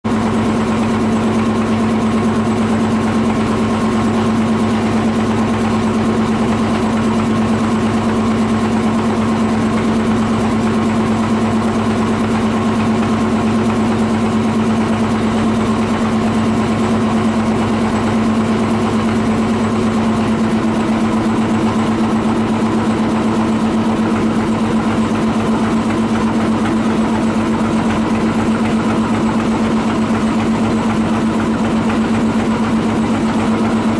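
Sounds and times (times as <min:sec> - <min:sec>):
boat engine droning: 0:00.2 - 0:33.9.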